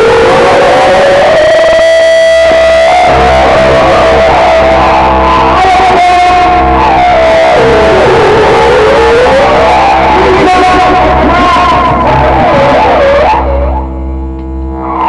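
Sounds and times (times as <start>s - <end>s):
distorted noise wall: 0.0s - 15.0s
gliding strong tone: 1.2s - 15.0s.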